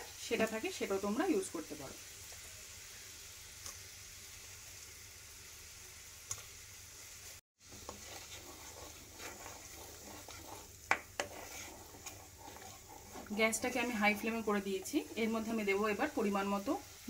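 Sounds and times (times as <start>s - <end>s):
mixture sizzling in a pan: 0.0s - 17.0s.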